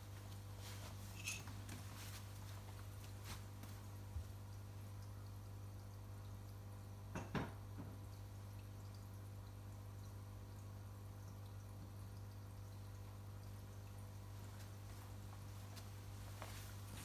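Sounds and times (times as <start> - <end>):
aquarium equipment humming: 0.0 - 17.0
water dripping and trickling: 0.0 - 17.0.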